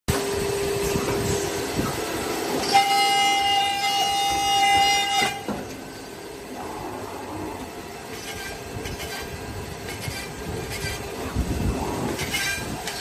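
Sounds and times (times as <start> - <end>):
high steady machine whine: 0.1 - 13.0
machine steady hum: 0.1 - 13.0.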